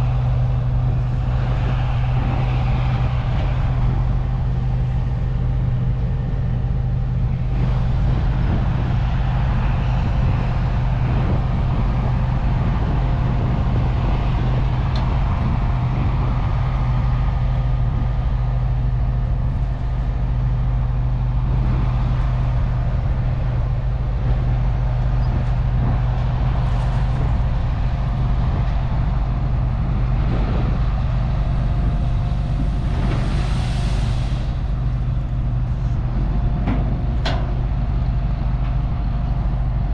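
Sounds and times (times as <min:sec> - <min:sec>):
rushing noise: 0:00.0 - 0:39.0
farm machine engine drone: 0:00.0 - 0:39.9.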